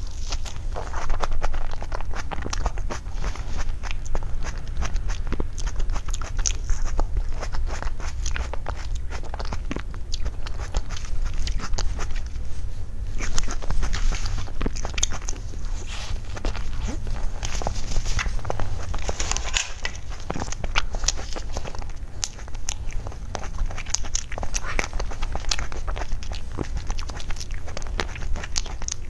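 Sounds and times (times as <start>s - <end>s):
low steady hum: 0.0s - 29.0s
person chewing pastry: 0.0s - 29.0s.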